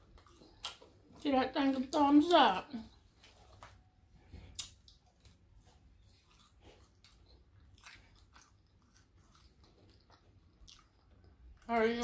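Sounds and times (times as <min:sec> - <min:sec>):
faint chewing of fried food: 0:00.0 - 0:12.0.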